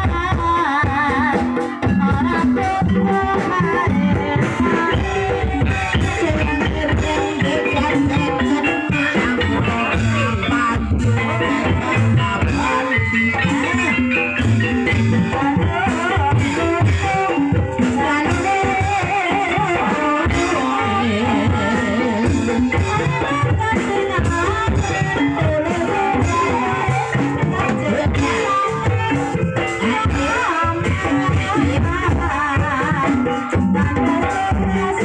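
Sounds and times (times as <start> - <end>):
drums and pitched instruments: 0.0 - 35.0
person singing: 0.0 - 35.0.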